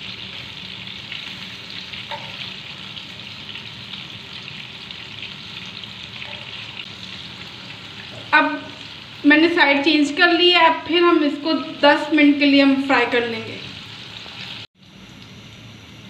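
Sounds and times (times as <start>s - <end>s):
meat sizzling in oil: 0.0s - 14.7s.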